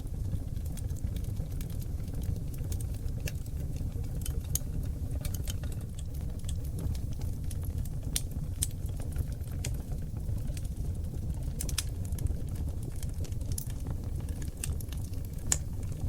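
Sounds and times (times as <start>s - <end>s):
low rumble of flames: 0.0s - 16.0s
wood fire crackles and pops: 0.0s - 16.0s.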